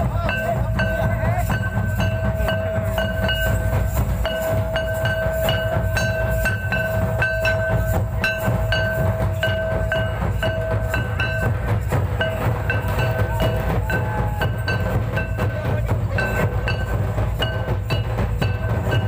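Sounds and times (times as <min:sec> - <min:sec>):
crowd noise: 0:00.0 - 0:19.0
drum beats: 0:00.0 - 0:19.0.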